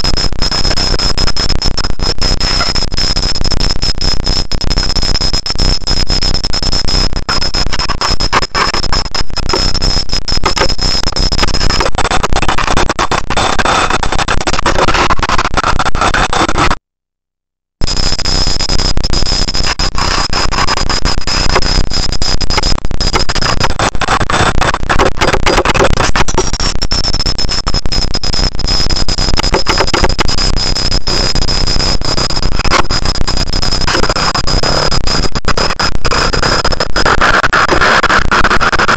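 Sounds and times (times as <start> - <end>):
crackling microphone hiss: 0.0 - 16.7, 17.8 - 38.9
high-pitched electronic whine: 0.0 - 16.8, 17.8 - 38.9.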